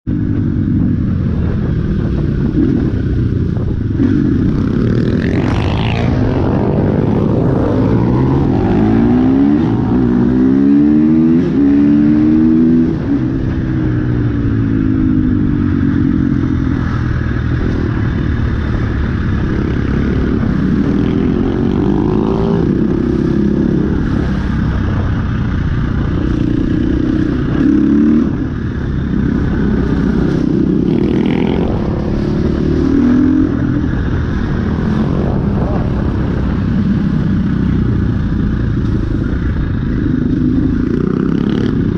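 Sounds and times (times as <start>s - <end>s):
dirt bike engines revving: 0.1s - 41.9s.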